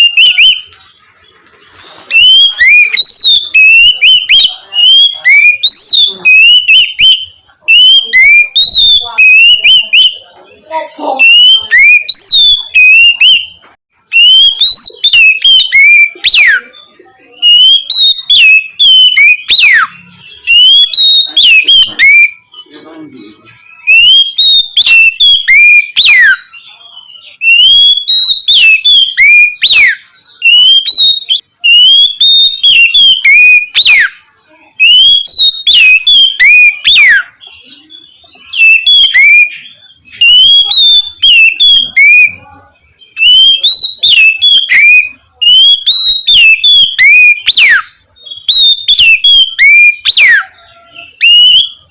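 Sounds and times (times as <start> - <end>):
bird singing whistled song: 0.0 - 1.0, 2.0 - 10.3, 11.0 - 51.9.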